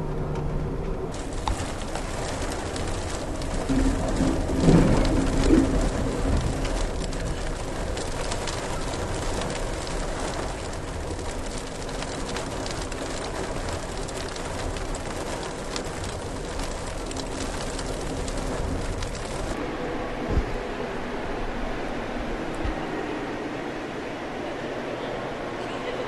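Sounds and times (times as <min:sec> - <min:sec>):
rain pattering on train window: 0:00.0 - 0:26.0
train running noise: 0:00.0 - 0:26.0.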